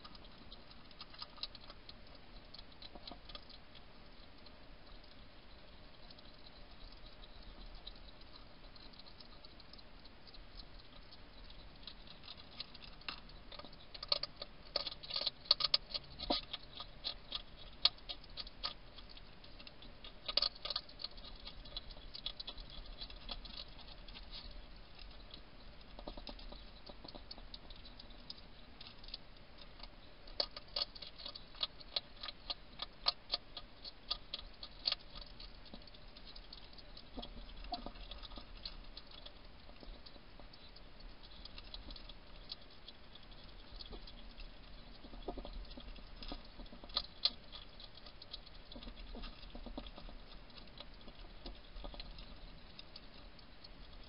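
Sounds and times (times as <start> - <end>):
hedgehog crunching dry food: 0.0 - 54.0.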